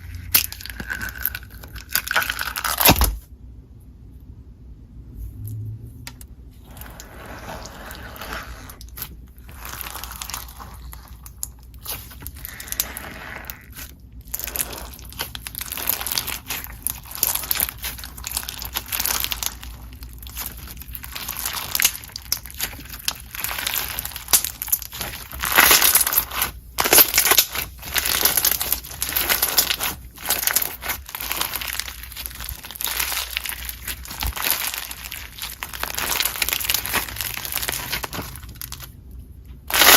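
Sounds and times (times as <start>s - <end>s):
hands squishing slime: 6.6s - 39.0s, 39.6s - 39.9s.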